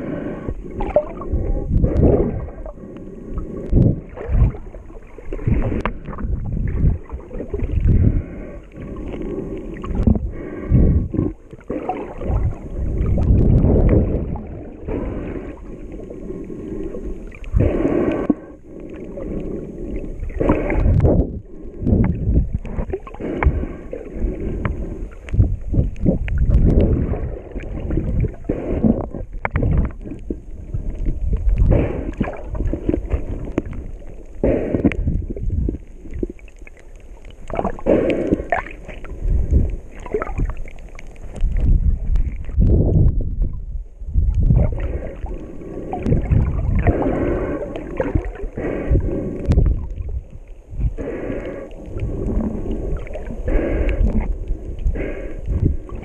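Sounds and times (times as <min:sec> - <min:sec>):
muffled underwater water sloshing: 0:00.0 - 0:56.0.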